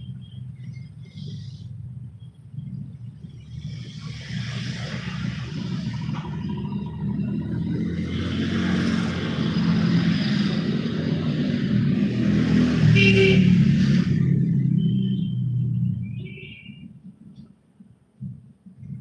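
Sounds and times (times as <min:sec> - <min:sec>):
traffic engine rumble: 0:00.0 - 0:19.0.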